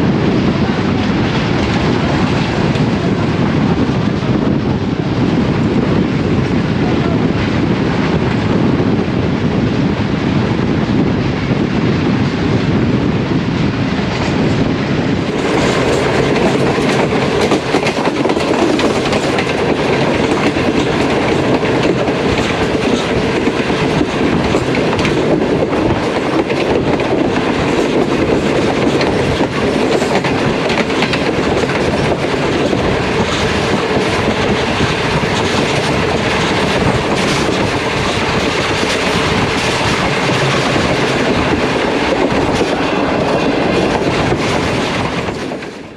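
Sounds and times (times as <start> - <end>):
passenger train rushing past: 0.0 - 45.9.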